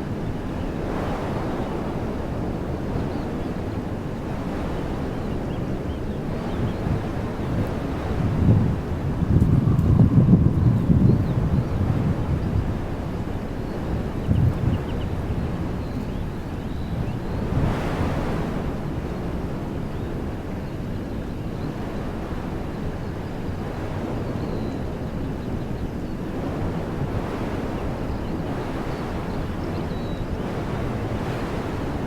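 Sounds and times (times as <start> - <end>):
wind blowing through trees: 0.0 - 32.0
wind buffeting microphone: 0.0 - 32.0.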